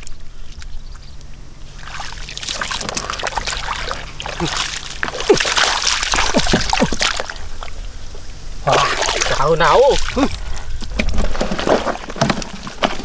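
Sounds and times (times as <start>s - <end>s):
water splashing and sloshing: 1.7s - 13.0s.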